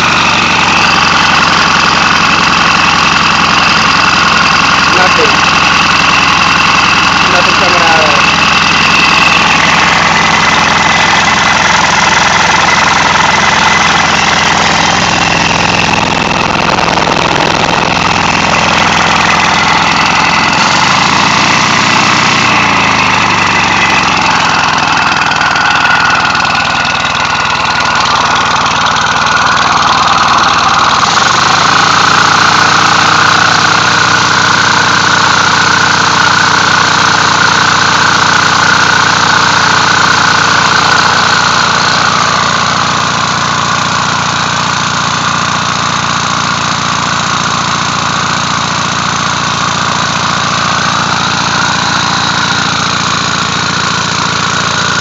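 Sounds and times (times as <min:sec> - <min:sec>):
loud exhaust hiss: 0:00.0 - 0:44.2
engine running: 0:00.0 - 0:55.0.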